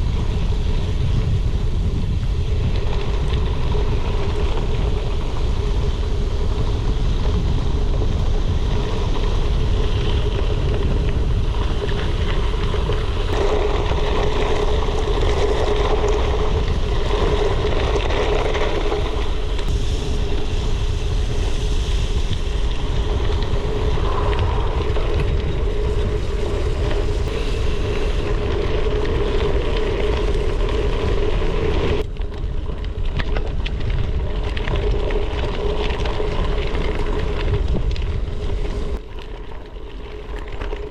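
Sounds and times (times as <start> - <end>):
bike tyres rumbling on gravel: 0.0 - 40.9
wind buffeting microphone: 0.0 - 40.9.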